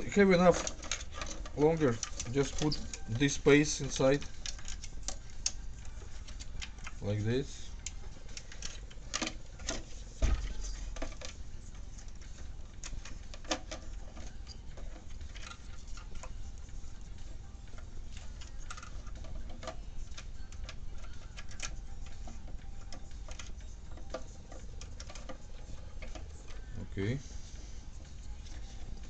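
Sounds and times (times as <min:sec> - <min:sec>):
plastic parts clicking and tapping: 0:00.0 - 0:29.0.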